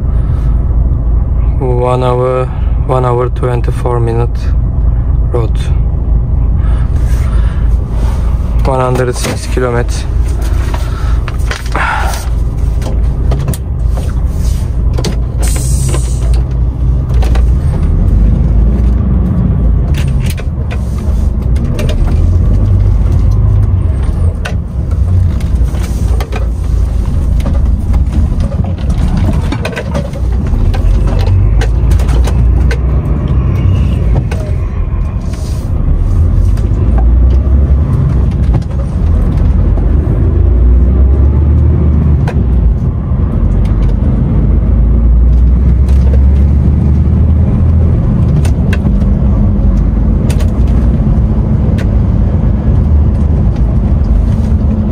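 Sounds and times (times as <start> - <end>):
lorry diesel engine rumble: 0.0 - 54.9
road noise: 0.0 - 54.9.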